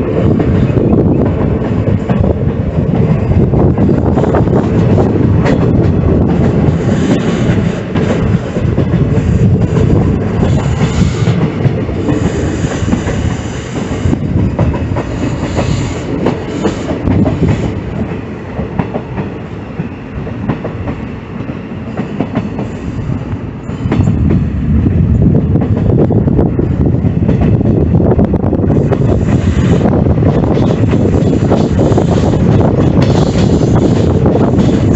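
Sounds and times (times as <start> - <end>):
train rumbling on rails: 0.0 - 34.9.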